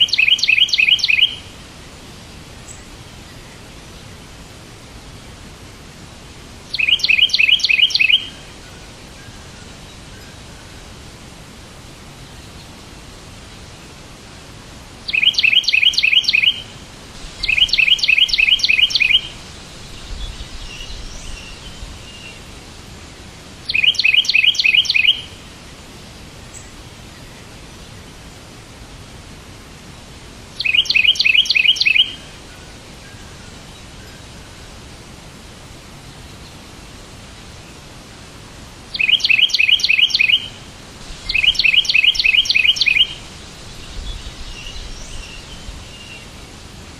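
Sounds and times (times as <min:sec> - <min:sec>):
songbird singing: 0:00.0 - 0:46.9
steady hiss: 0:00.0 - 0:46.9.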